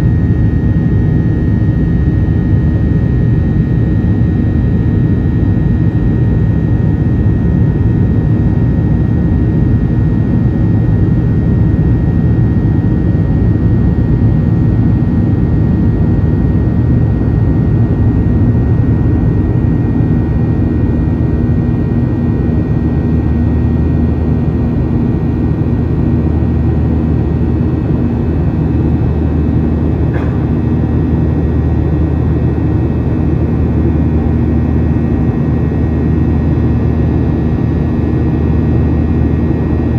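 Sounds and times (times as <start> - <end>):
aircraft cabin engine drone: 0.0 - 39.9.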